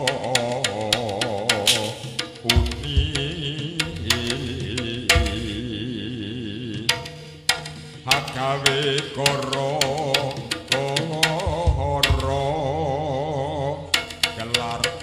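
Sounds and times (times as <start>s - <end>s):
sharp percussive strikes: 0.0s - 5.8s, 6.9s - 12.7s, 13.8s - 15.0s.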